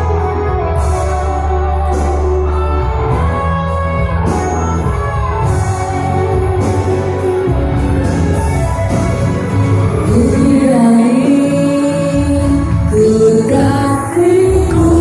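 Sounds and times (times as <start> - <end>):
instrumental music with beat and bass: 0.0 - 15.0.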